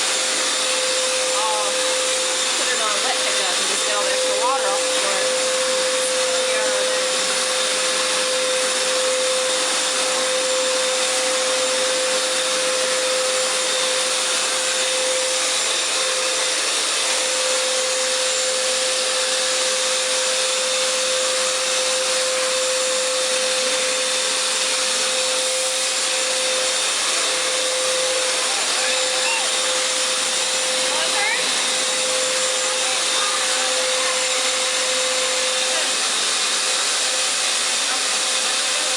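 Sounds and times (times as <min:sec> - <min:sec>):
floor cleaner whooshing hiss: 0:00.0 - 0:38.9.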